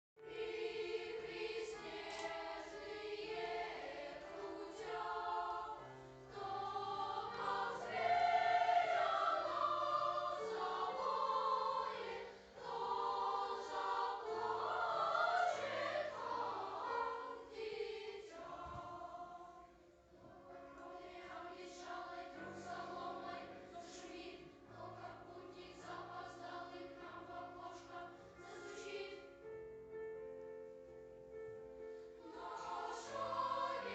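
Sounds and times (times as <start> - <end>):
choir singing: 0.2 - 29.5, 31.9 - 33.9.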